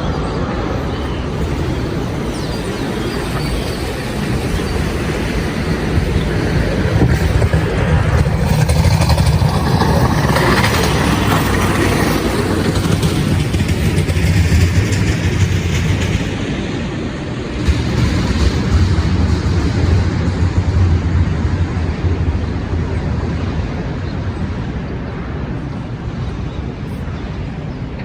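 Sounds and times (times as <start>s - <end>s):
passing vehicles rumbling: 0.0s - 28.0s.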